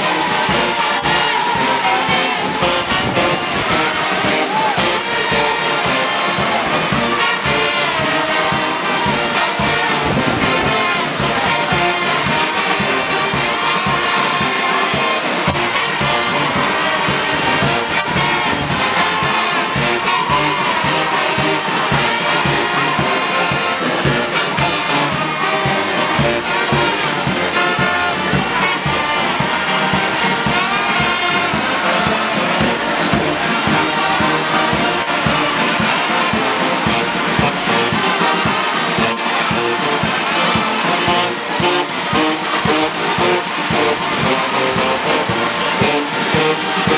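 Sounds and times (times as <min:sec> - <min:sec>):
brass band playing: 0:00.0 - 0:46.9.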